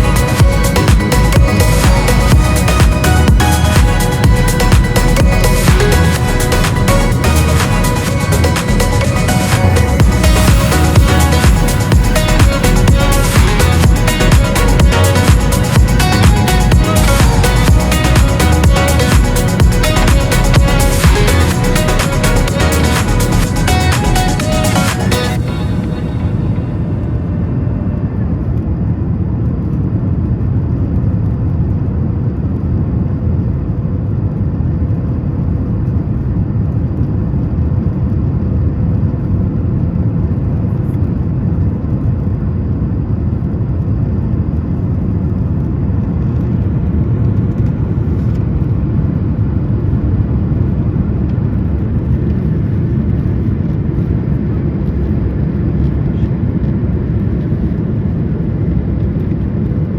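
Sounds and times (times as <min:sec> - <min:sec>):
airplane cabin airflow and engines: 0:00.0 - 0:59.9.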